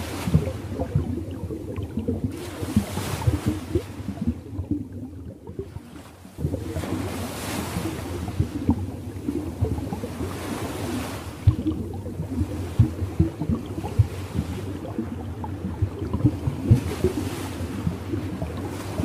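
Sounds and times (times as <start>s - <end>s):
waves washing and lapping: 0.0s - 19.0s.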